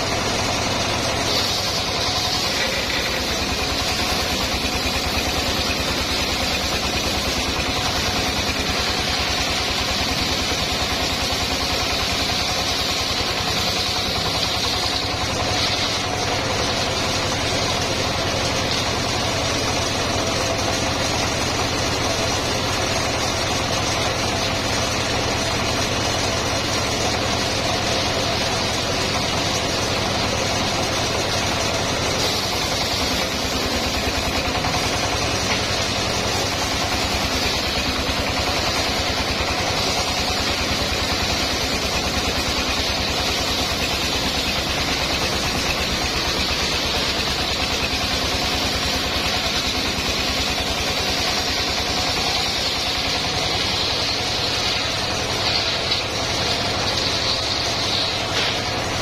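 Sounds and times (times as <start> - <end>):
saw blade whine: 0.0 - 59.0
sawmill engine running: 0.0 - 59.0.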